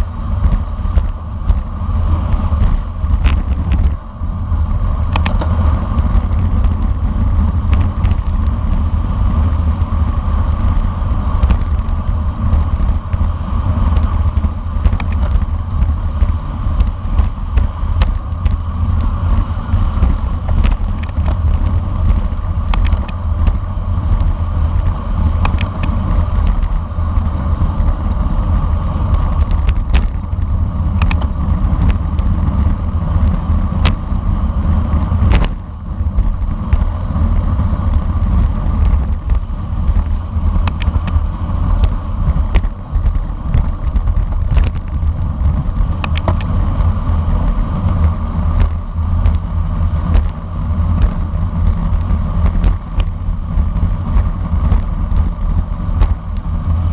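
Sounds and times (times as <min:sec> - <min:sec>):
bicycle clicks and rattles: 0:00.0 - 0:56.9
wind buffeting microphone: 0:00.0 - 0:56.9.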